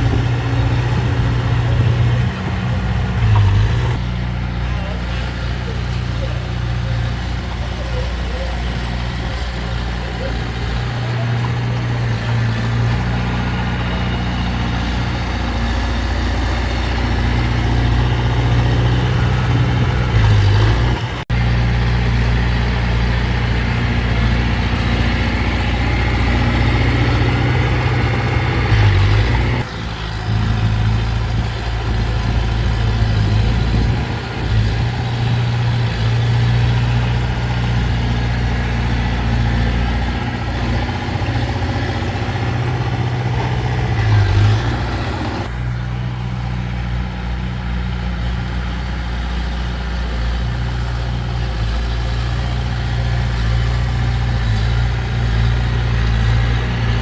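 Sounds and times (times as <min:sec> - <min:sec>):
heavy diesel engine humming: 0:00.0 - 0:57.0.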